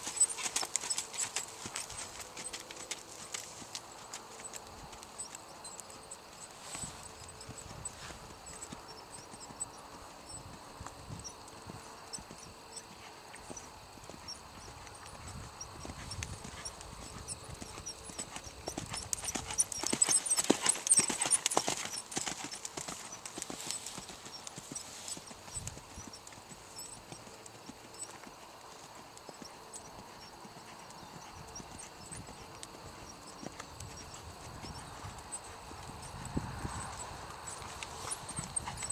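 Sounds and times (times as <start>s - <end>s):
horse hoofbeats on dirt: 0.0s - 38.9s.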